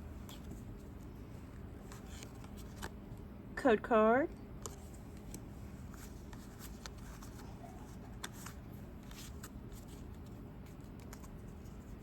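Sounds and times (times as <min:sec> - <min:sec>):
low steady hum: 0:00.0 - 0:12.0
cards rustling: 0:00.2 - 0:03.2, 0:04.6 - 0:12.0.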